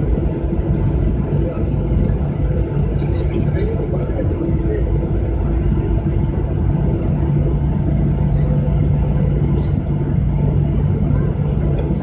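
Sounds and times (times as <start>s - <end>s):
jet cabin engine rumble: 0.0s - 12.0s
low steady hum: 0.0s - 12.0s.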